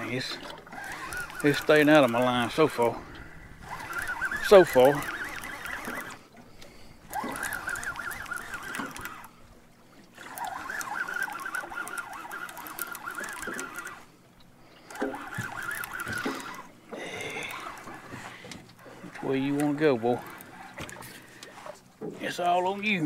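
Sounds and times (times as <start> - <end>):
fishing reel buzzing: 0.0 - 21.8.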